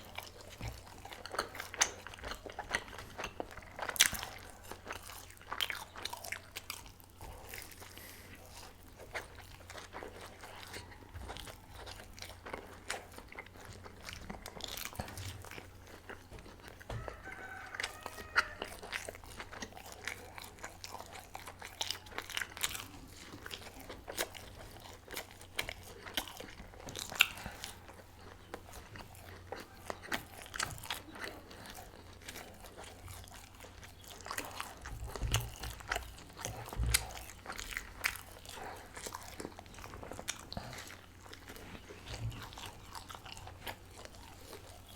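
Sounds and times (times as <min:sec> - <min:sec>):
biting and chewing food: 0:00.0 - 0:44.9.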